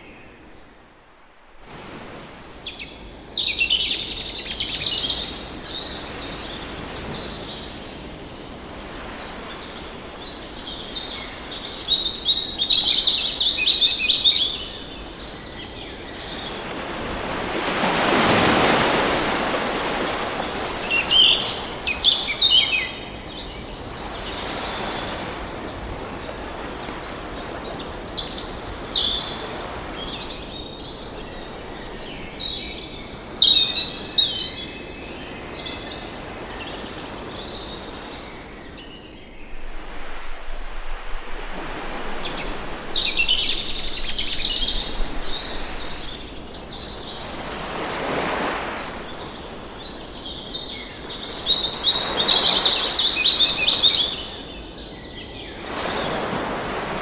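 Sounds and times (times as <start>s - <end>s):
ocean waves washing: 1.3s - 33.4s, 34.2s - 57.0s
birds chirping and trilling: 2.6s - 57.0s.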